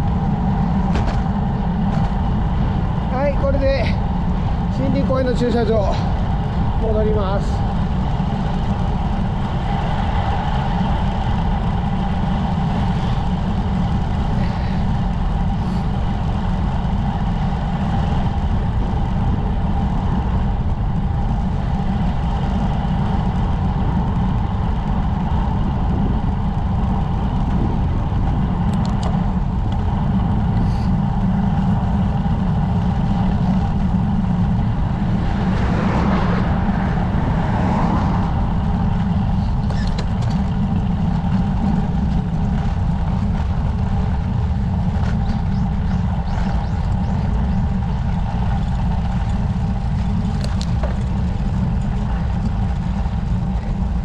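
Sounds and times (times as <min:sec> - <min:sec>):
bike road noise rumble: 0:00.0 - 0:54.0
wind buffeting microphone: 0:00.0 - 0:54.0.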